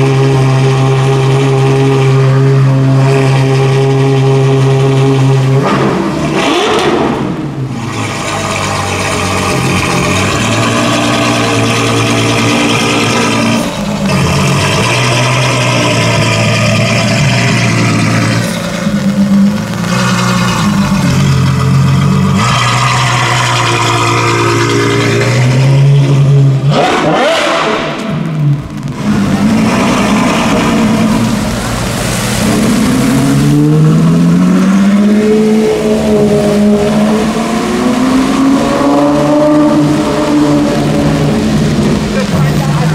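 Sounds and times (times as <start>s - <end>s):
engines revving up: 0.0s - 42.9s
loud supercar engines: 0.0s - 42.9s
car passing close: 5.7s - 42.9s.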